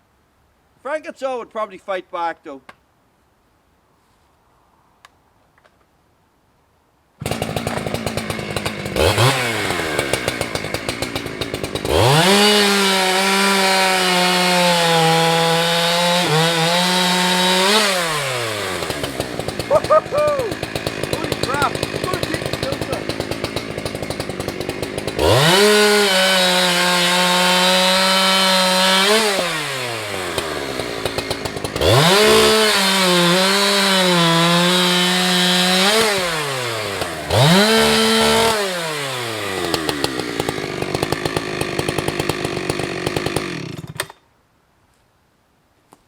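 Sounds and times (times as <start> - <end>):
chainsaw idling and revving: 7.2 - 44.2.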